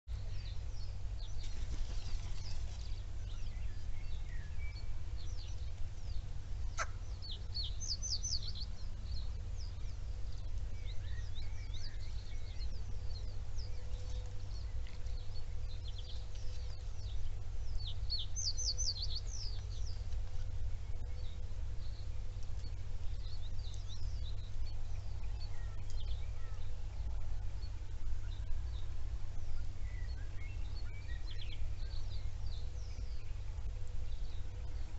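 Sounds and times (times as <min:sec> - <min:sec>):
bird chirping: 0:00.1 - 0:34.9
low rumble: 0:00.1 - 0:34.9.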